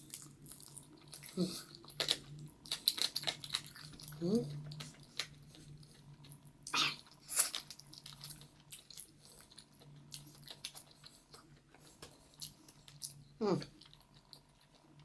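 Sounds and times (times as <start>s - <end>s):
close chewing and mouth noises: 0.0s - 15.0s
low steady hum: 0.0s - 15.0s.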